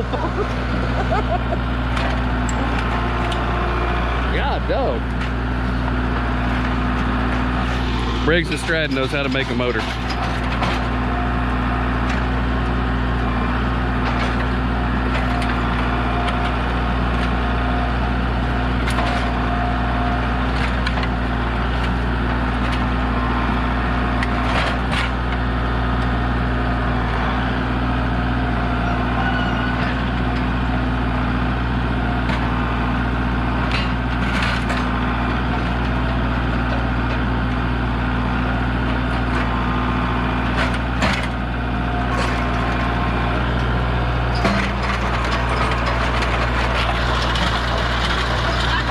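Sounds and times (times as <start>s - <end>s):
engine running: 0.0s - 48.9s.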